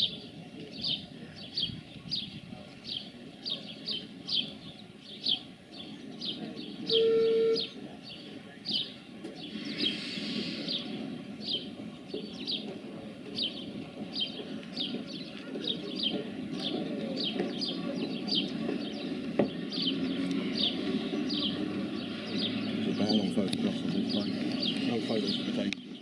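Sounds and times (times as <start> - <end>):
distant steam locomotive rumble: 0.0 - 26.0.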